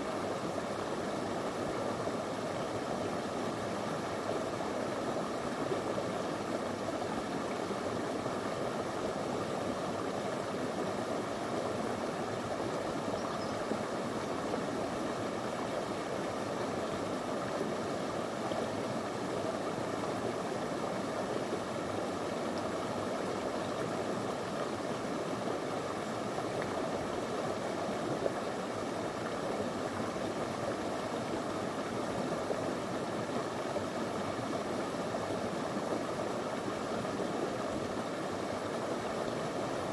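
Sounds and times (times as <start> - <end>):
river flowing over stones: 0.1 - 39.9.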